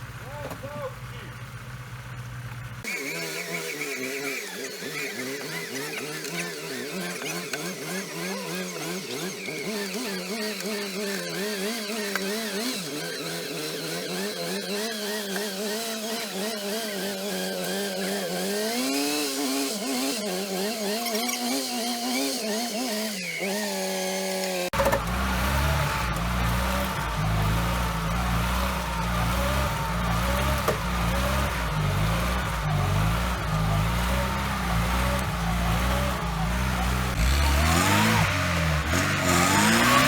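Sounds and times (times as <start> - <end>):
off-road engine revving in mud: 0.0 - 40.0.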